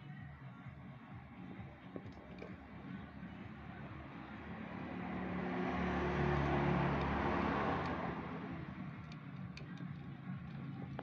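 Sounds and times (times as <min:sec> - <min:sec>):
motor vehicle passing: 0:01.4 - 0:11.0.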